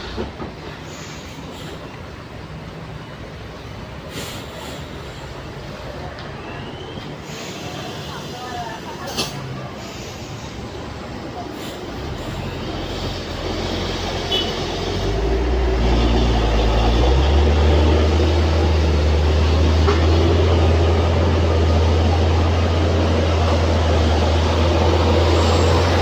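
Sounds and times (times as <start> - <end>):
heavy vehicle engine labouring: 0.0 - 26.0.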